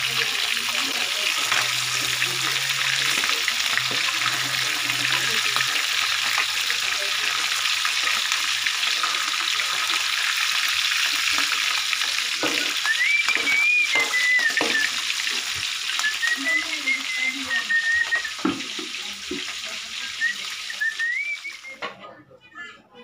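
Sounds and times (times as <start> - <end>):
fish sizzling in hot oil: 0.0 - 21.9.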